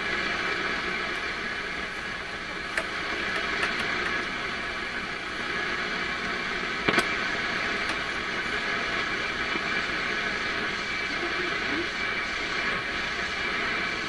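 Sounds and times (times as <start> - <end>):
shortwave radio hiss: 0.0 - 14.0
static crackle: 0.0 - 14.0.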